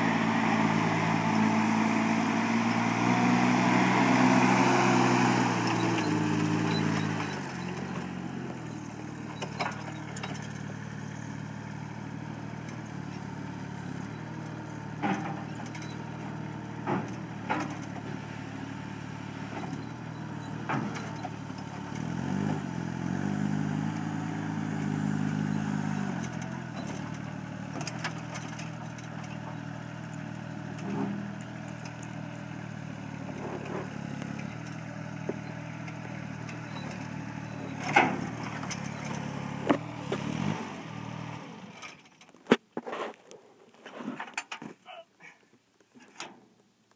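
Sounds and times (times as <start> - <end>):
forklift engine revving: 0.0 - 42.0.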